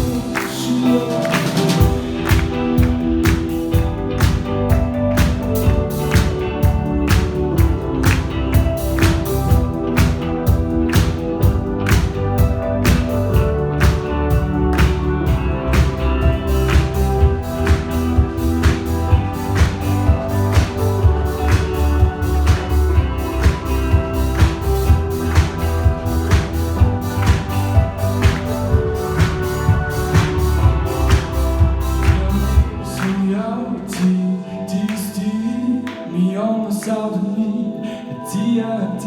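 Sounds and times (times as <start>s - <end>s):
instrumental music with bass: 0.0s - 34.9s.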